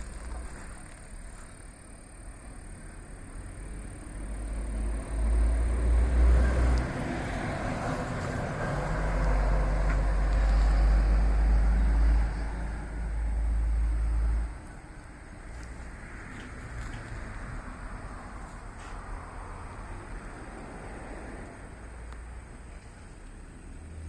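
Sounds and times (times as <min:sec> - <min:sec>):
vehicle passing: 0:00.0 - 0:24.0.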